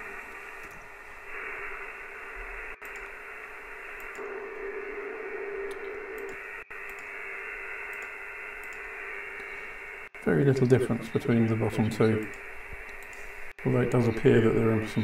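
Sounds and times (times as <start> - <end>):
steady hiss: 0.0 - 15.0
steady test tone: 1.3 - 15.0.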